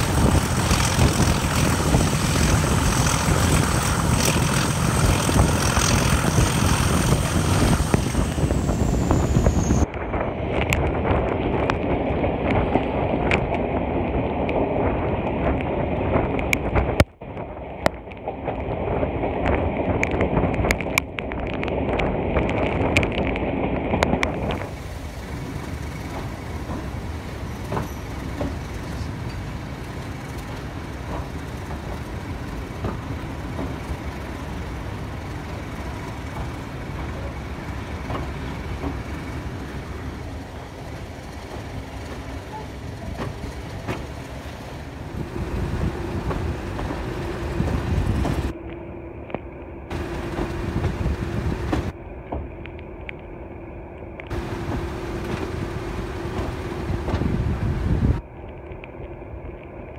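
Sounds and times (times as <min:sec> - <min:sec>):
rushing wind: 0:00.0 - 0:59.9
train rumbling along track: 0:00.0 - 0:59.9.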